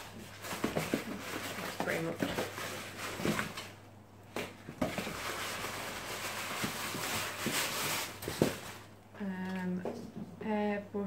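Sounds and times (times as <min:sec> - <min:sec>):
tissue paper rustling and crinkling: 0:00.0 - 0:09.0.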